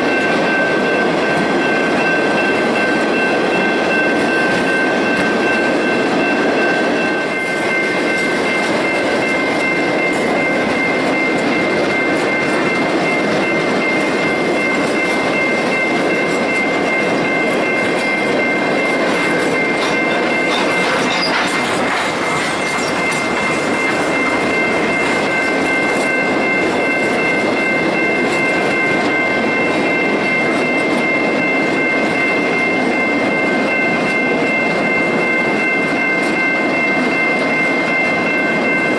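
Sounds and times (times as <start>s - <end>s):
high ringing whine: 0.0s - 38.9s
train wheels rumbling on track: 0.0s - 38.9s.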